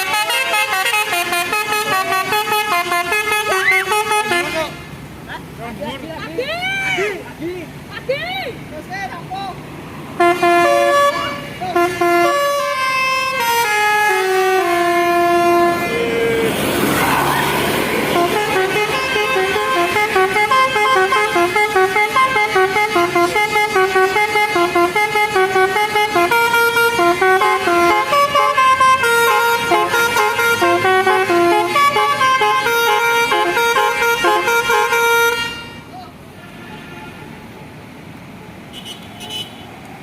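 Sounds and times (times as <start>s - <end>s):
multi-tone bus horn melody: 0.0s - 5.0s, 10.1s - 37.5s.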